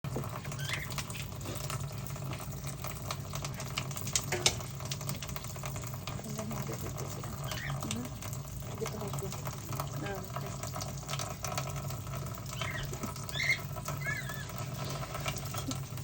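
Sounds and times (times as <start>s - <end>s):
tap running into sink: 0.1s - 15.8s.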